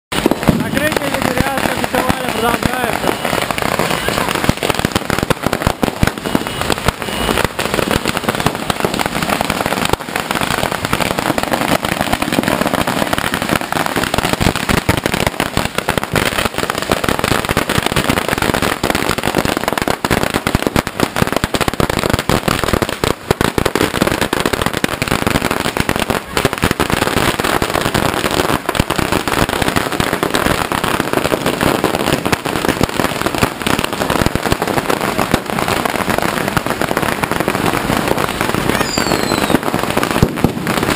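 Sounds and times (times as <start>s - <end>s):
firecrackers banging: 0.1s - 40.9s.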